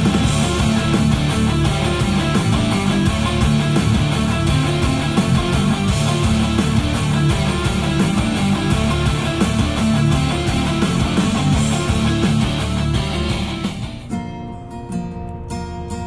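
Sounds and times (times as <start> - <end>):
guitar music with strong bass: 0.0 - 16.0.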